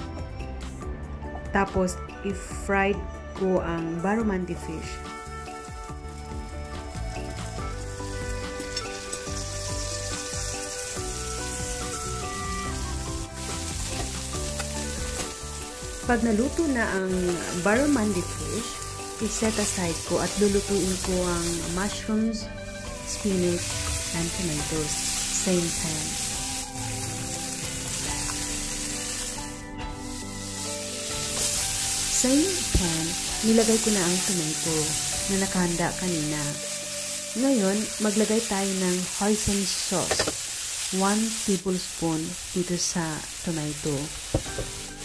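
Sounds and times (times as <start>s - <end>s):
background music: 0.0s - 45.0s
fish sizzling in butter: 4.8s - 45.0s.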